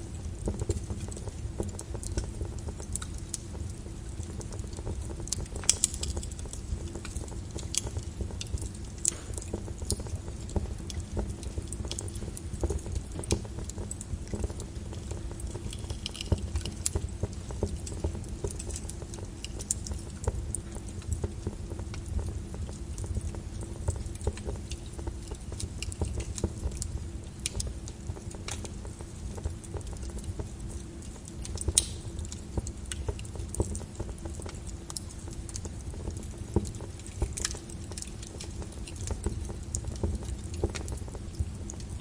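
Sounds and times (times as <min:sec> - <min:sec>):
wood fire crackling and popping: 0:00.0 - 0:42.0.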